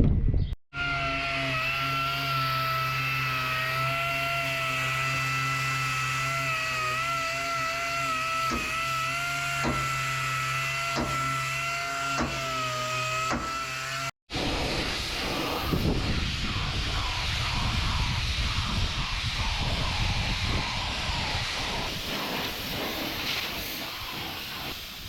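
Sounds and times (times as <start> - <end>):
electric motor whining: 0.8 - 25.0.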